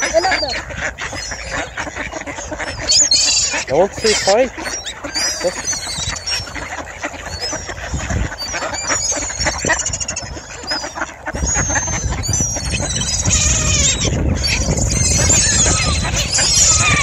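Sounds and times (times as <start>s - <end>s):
ducks calling and chattering: 0.0s - 17.0s
high gliding bird calls: 0.0s - 17.0s.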